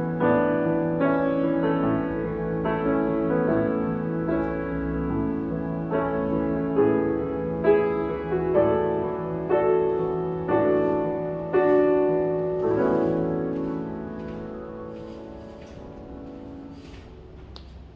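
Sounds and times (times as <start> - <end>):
piano playing slow ballad chords: 0.0 - 17.9.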